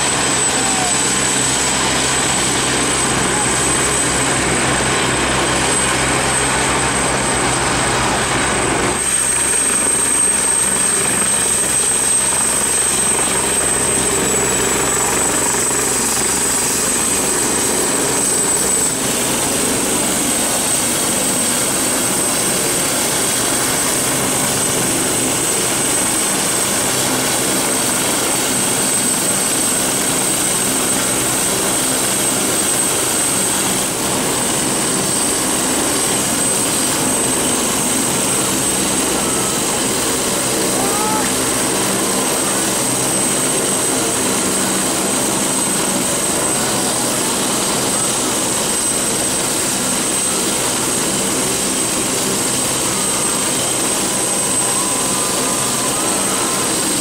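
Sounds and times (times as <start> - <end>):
helicopter turbine whine: 0.0 - 57.0.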